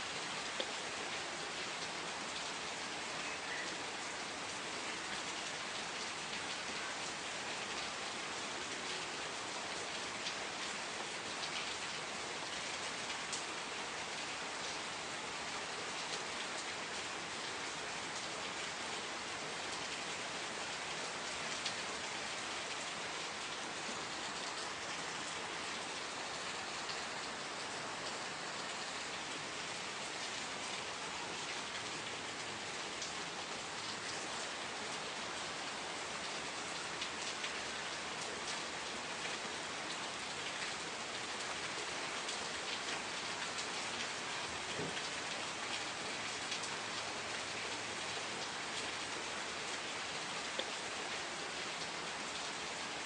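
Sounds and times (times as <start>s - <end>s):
steady rain falling: 0.0s - 53.0s
raindrops pattering on surfaces: 0.1s - 53.0s.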